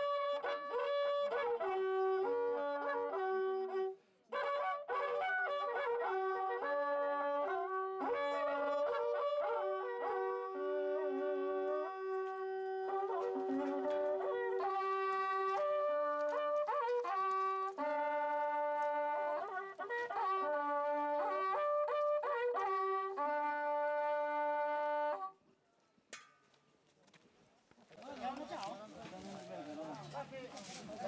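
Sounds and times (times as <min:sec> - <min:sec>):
horn trumpets playing a melody: 0:00.0 - 0:25.4.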